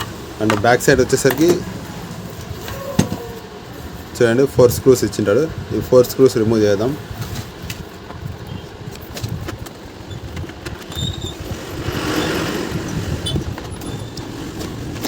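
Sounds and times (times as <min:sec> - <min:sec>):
broad rushing noise: 0:00.0 - 0:15.0.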